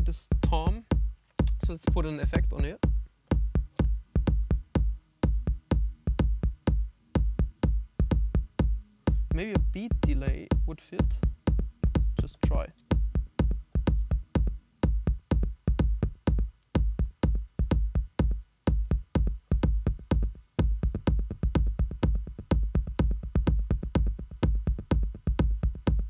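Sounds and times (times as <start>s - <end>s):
deep kick drum: 0.0s - 26.0s
looping electronic drum beat: 0.0s - 26.0s
tom with delay: 0.0s - 26.0s.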